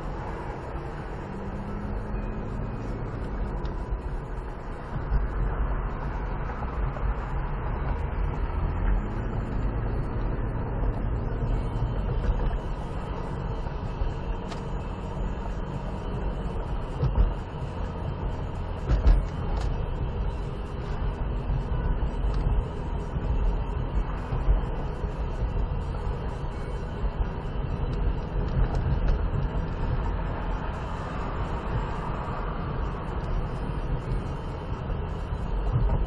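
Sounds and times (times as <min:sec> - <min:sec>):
car engine hum: 0:00.0 - 0:36.0
tyre noise on road: 0:00.0 - 0:36.0.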